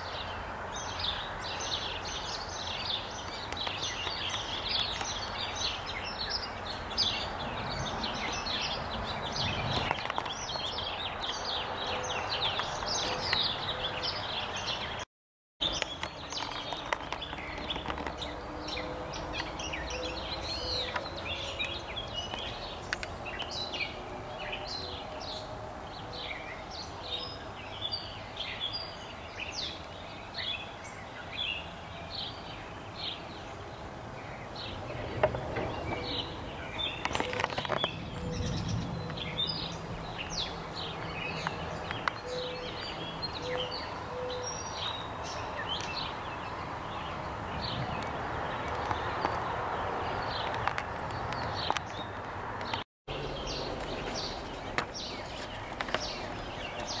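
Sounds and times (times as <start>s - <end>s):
birds singing and chirping: 0.0s - 15.0s, 15.6s - 57.0s
outdoor background hiss: 0.0s - 15.0s, 15.7s - 51.1s.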